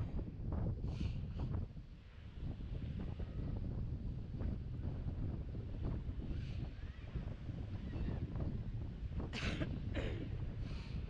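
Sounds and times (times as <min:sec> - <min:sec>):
wind gusting across microphone: 0:00.0 - 0:11.0.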